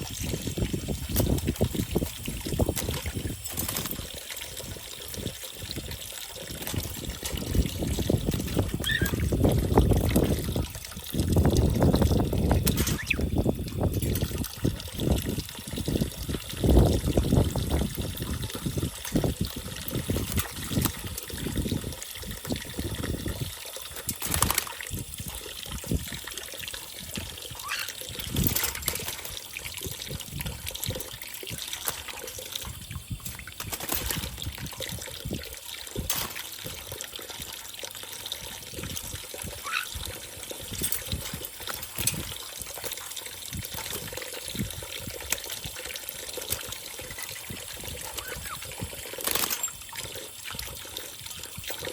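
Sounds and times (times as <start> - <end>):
water trickling and splashing: 0.0 - 51.9.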